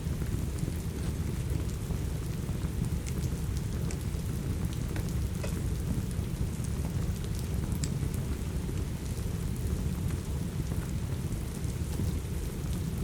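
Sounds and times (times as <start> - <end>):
steady rain: 0.0 - 13.0
wood fire crackling and popping: 0.0 - 13.0.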